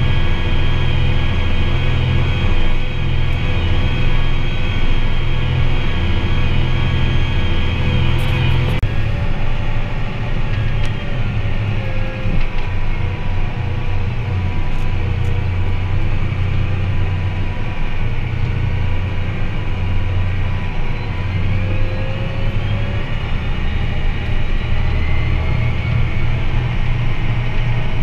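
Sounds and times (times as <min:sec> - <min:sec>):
tractor engine droning: 0:00.0 - 0:28.0.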